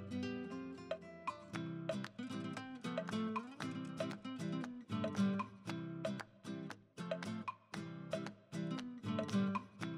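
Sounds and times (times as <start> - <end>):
plucked string instrument music: 0.0 - 9.9.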